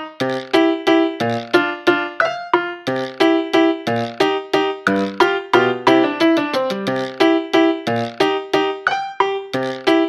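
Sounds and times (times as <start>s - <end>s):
light keyboard melody: 0.0s - 10.0s.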